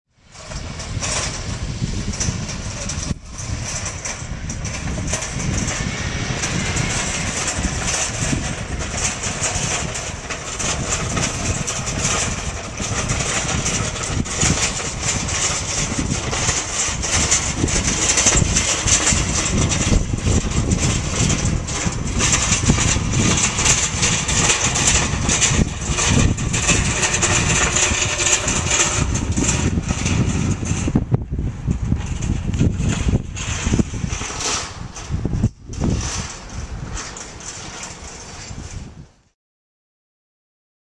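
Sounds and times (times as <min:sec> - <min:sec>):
metal trolley rattling on tarmac: 0:00.2 - 0:39.4.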